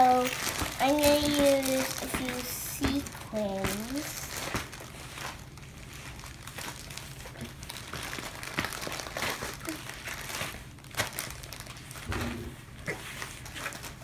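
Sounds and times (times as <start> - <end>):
plastic bag of sequins crinkling: 0.0 - 12.1.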